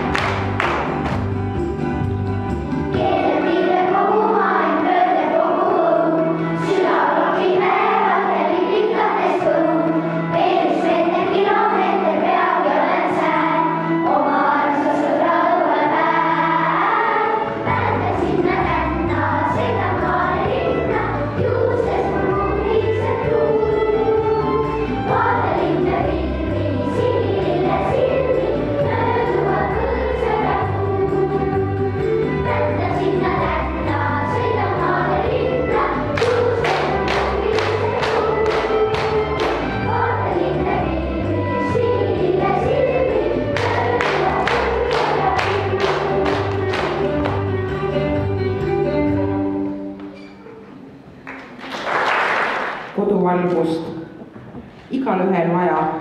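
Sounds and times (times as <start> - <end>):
children's choir singing: 0.0 - 1.3, 2.9 - 51.0
instrumental accompaniment: 0.0 - 51.5.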